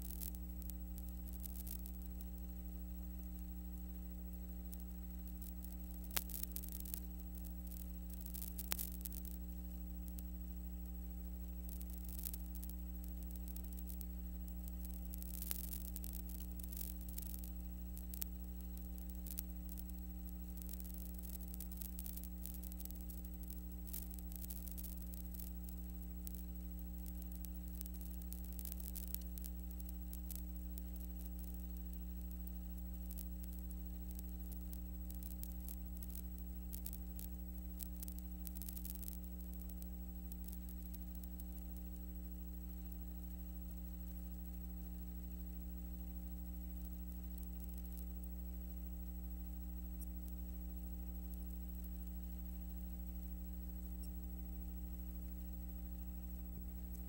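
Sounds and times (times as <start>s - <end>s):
faint crackling static: 0.0s - 57.0s
small clicks: 0.0s - 57.0s
steady electrical hum: 0.0s - 57.0s.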